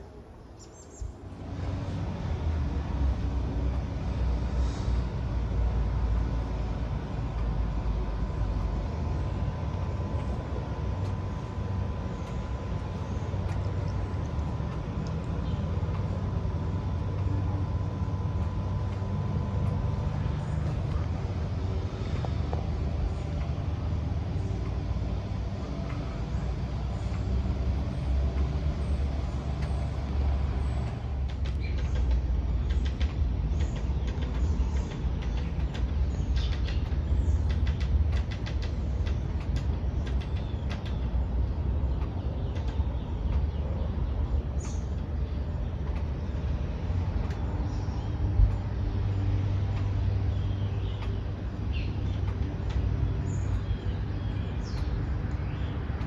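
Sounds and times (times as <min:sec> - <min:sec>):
low rumble: 0:01.0 - 0:56.0.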